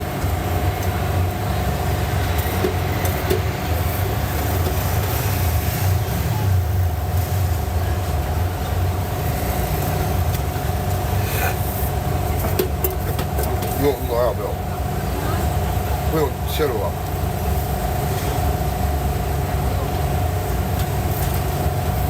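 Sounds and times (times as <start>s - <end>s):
constant hum: 0.0s - 22.0s.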